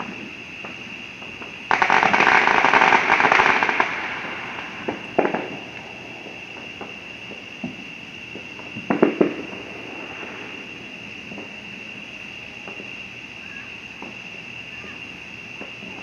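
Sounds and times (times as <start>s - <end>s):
fireworks crackling: 0.0s - 13.1s.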